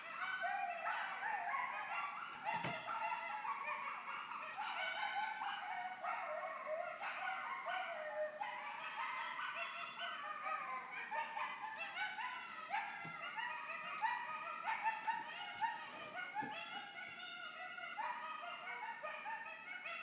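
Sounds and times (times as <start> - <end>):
coyotes yipping and howling: 0.0 - 20.0.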